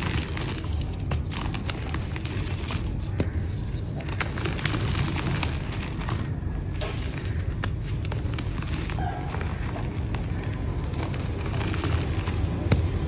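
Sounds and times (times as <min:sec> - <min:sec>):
dry mud crumbling: 0:00.0 - 0:13.0.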